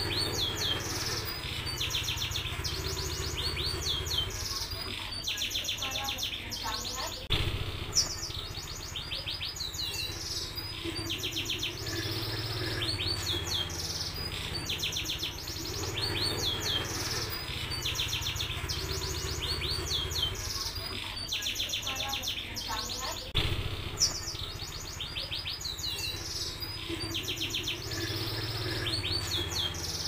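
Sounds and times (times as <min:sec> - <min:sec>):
canary singing trills: 0:00.0 - 0:30.0.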